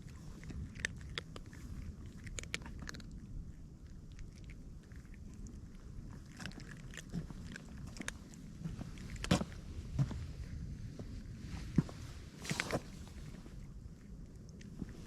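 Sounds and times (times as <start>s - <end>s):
cat crunching dry food: 0.0s - 9.9s, 12.4s - 15.0s.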